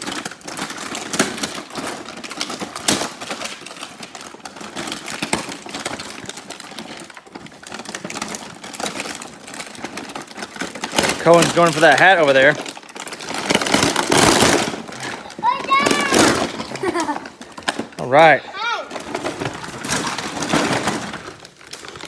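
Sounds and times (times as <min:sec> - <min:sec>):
packaging crackling: 0:00.0 - 0:22.0.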